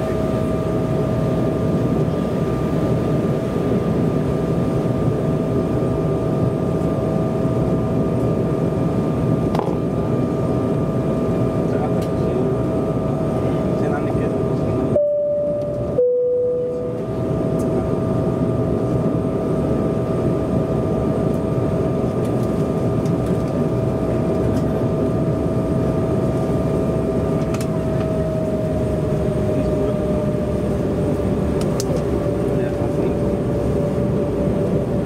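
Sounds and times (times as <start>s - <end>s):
aircraft rolling low rumble: 0.0s - 35.0s
turbofan whine: 0.0s - 35.0s.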